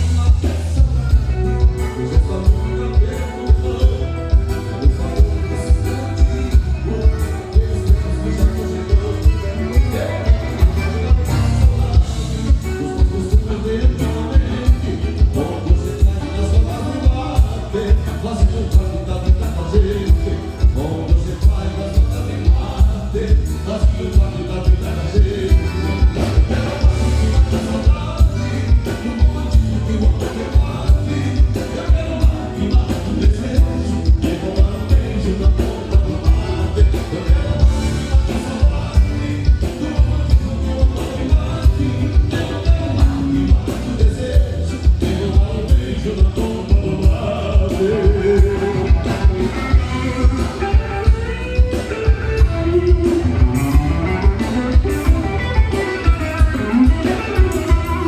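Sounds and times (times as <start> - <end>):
bass beat: 0.0 - 58.0
live band over loudspeakers: 0.0 - 58.0
person singing: 0.0 - 58.0.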